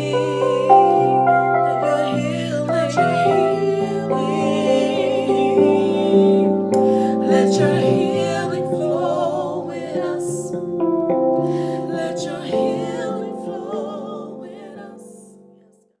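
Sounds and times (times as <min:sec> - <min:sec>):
soft wordless singing: 0:00.0 - 0:16.0.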